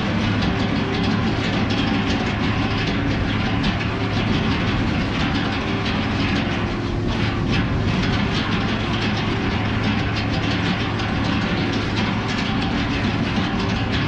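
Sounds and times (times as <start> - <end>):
diesel engine hum: 0.0 - 14.0
metallic clatter and rattle: 0.0 - 14.0.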